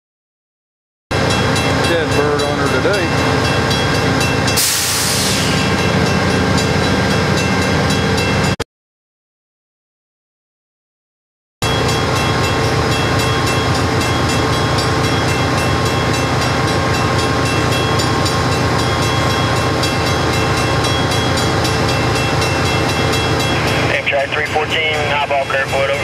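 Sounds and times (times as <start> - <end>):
diesel locomotive engine idling: 1.1 - 8.3, 11.6 - 26.0.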